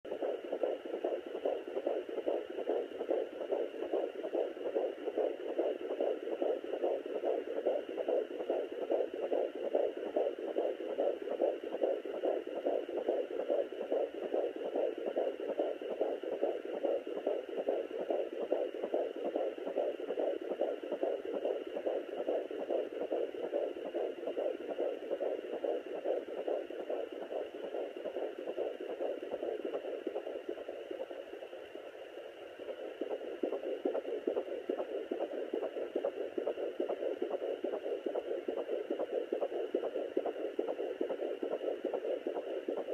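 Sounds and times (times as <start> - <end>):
fetal heartbeat through doppler speaker: 0.0 - 42.9.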